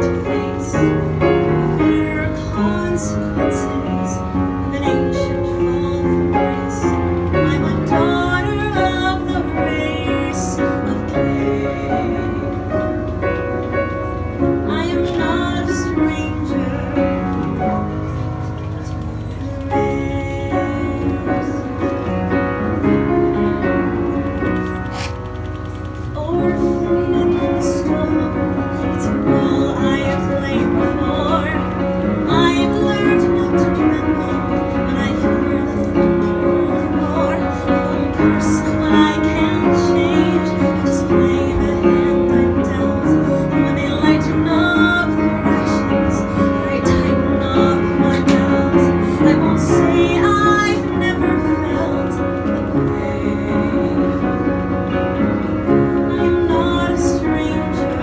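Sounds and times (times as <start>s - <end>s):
woman singing a ballad: 0.0s - 13.4s, 14.4s - 24.7s, 26.1s - 58.0s
piano chords: 0.0s - 58.0s.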